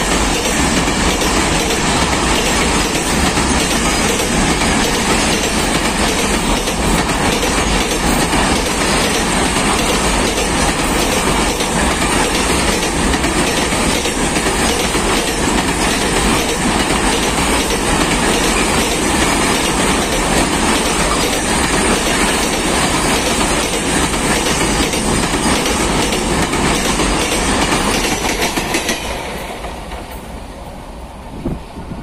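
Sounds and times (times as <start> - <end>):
train wagon wheels rumbling: 0.0 - 32.0.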